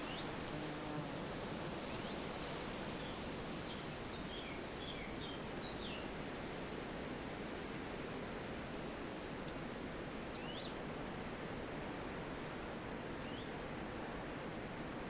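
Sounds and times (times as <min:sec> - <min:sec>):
wind through trees: 0:00.0 - 0:15.0.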